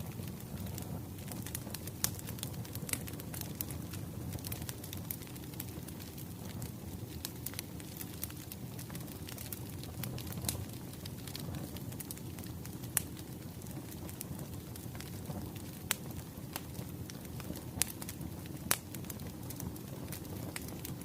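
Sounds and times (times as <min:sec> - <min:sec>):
fire pops and snaps: 0:00.0 - 0:21.0
low rumble of burning logs: 0:00.0 - 0:21.0.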